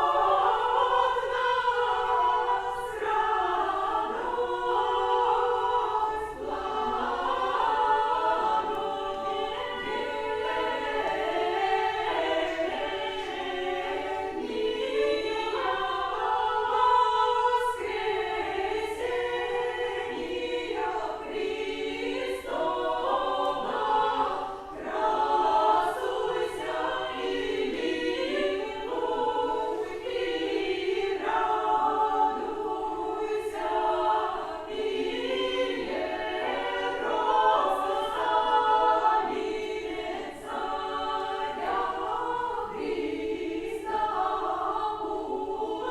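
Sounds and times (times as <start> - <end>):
choir singing a cappella: 0.0 - 45.9.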